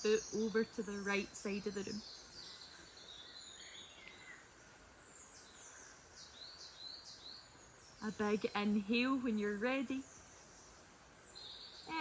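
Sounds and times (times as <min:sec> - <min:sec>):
birds chirping: 0:00.0 - 0:12.0
soft outdoor hiss: 0:00.0 - 0:12.0.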